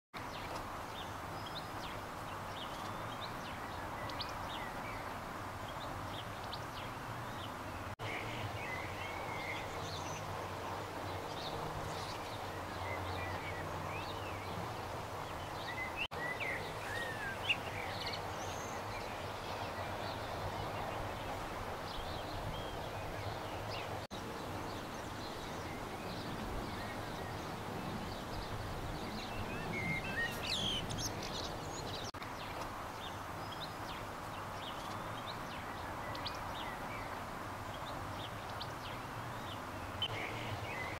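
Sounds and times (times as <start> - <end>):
small birds chirping: 0.2 - 40.9.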